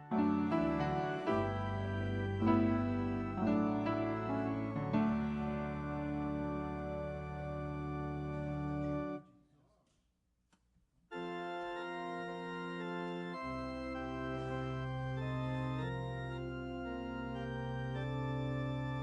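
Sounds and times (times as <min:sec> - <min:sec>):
organ playing held chords: 0:00.0 - 0:09.2, 0:11.1 - 0:19.0.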